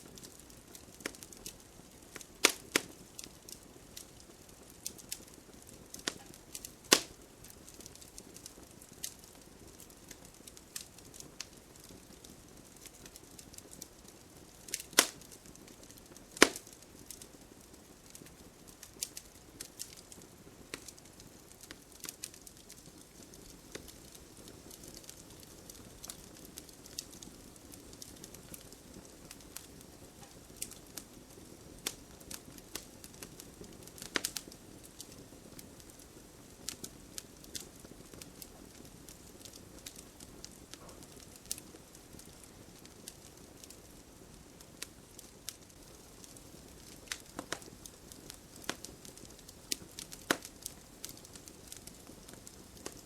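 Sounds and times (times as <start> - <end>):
campfire crackling and popping: 0.0 - 53.0
soft steady hiss: 0.0 - 53.0.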